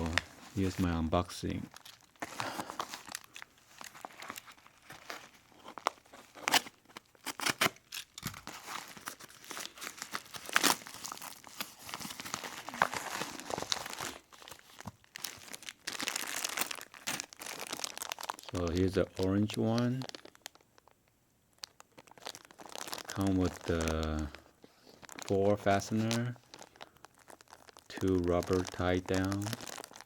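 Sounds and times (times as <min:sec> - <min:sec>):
parcel packaging tearing and crinkling: 0:01.7 - 0:20.9, 0:21.6 - 0:30.0.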